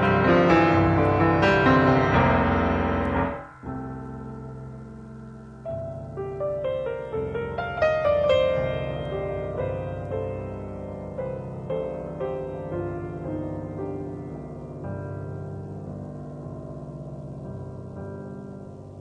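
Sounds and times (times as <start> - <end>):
solo piano music: 0.0 - 19.0.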